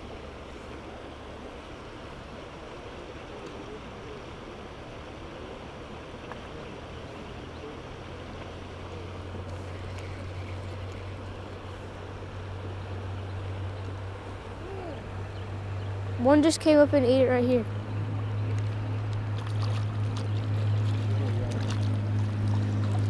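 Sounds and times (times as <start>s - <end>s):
low hum: 0.0s - 23.0s
stream water flowing: 0.0s - 23.0s.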